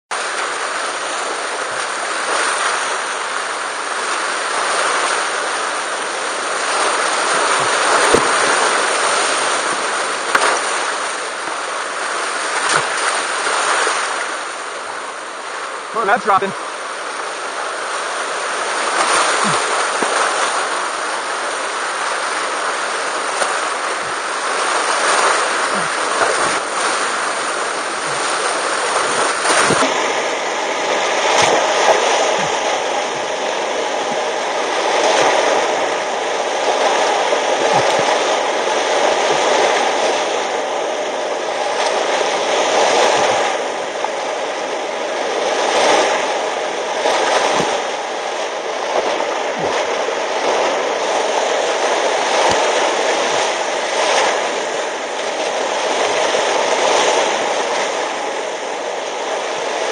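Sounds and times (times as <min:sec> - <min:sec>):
rushing whitewater: 0:00.1 - 0:59.9.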